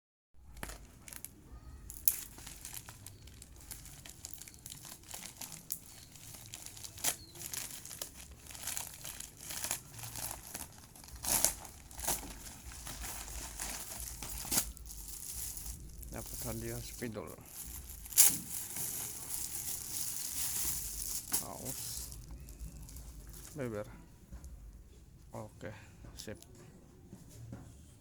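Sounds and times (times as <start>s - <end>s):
parcel wrapping crinkling: 0.4s - 24.8s
wrapping torn open: 0.5s - 23.6s.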